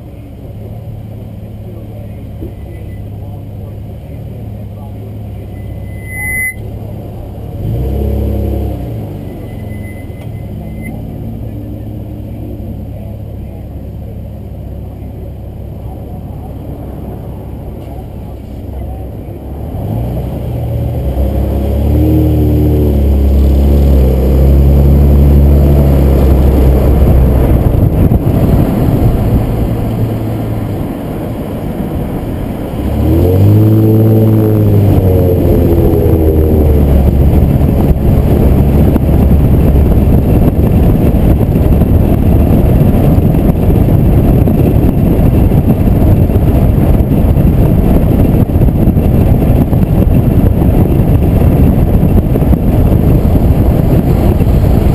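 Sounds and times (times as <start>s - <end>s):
car engine accelerating: 0.0s - 54.9s
road and wind noise: 0.0s - 54.9s.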